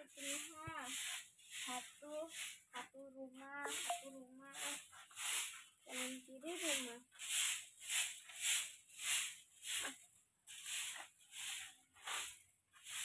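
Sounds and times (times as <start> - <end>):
twig broom sweeping concrete: 0.0 - 13.0.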